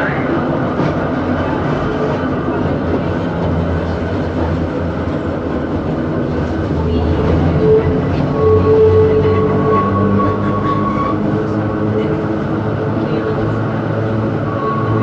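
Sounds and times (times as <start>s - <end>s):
railcar wheels rumbling on rails: 0.0s - 15.0s.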